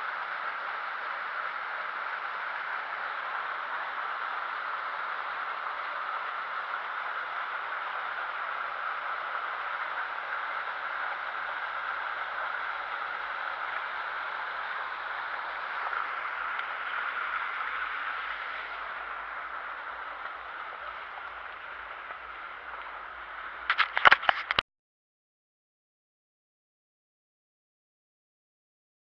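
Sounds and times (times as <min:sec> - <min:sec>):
stream running water: 0:00.0 - 0:24.6.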